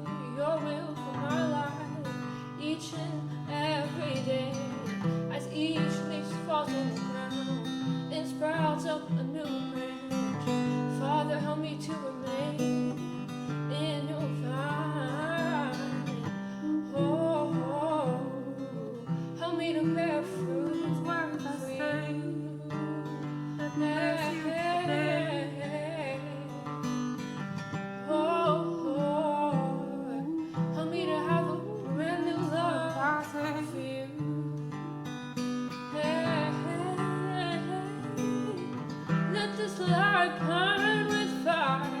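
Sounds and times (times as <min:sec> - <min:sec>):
person singing: 0:00.0 - 0:26.7, 0:28.1 - 0:34.9, 0:35.9 - 0:42.0
acoustic guitar chords: 0:00.0 - 0:42.0.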